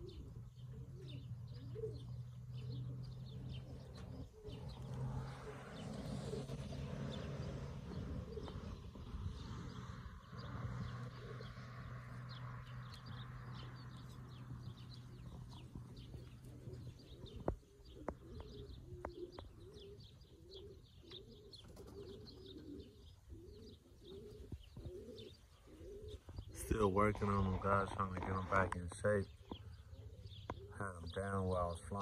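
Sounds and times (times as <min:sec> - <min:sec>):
pigeons cooing: 0:00.0 - 0:32.0
small birds chirping: 0:00.0 - 0:32.0.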